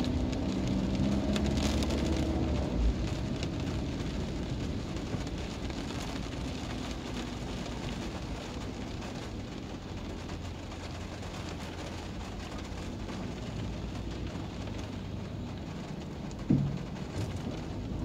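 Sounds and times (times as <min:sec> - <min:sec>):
low road rumble: 0:00.0 - 0:18.0
rain pattering on windshield: 0:00.0 - 0:18.0
tyres hissing on wet road: 0:00.0 - 0:18.0.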